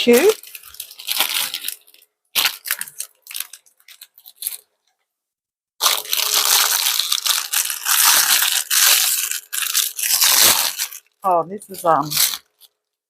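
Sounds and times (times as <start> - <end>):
plastic packaging crinkling: 0.0 - 5.0, 5.8 - 13.0.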